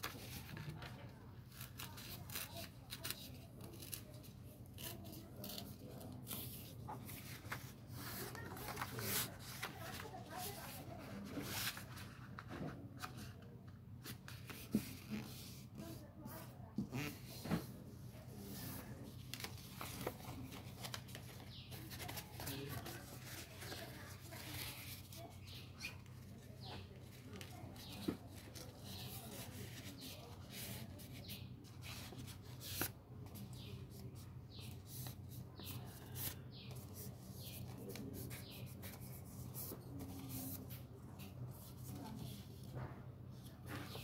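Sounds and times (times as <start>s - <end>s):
paper rustling and crinkling: 0.0s - 13.4s, 18.3s - 44.0s.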